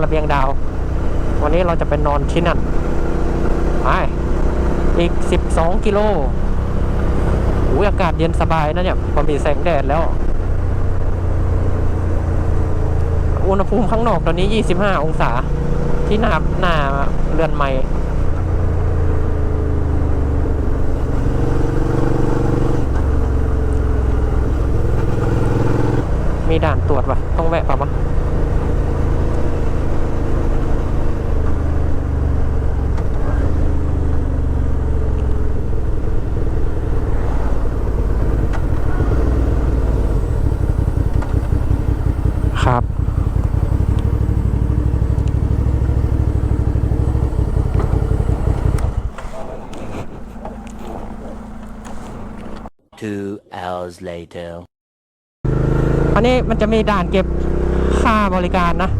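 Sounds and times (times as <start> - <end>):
motorcycle engine running: 0.0 - 52.7, 55.5 - 58.9.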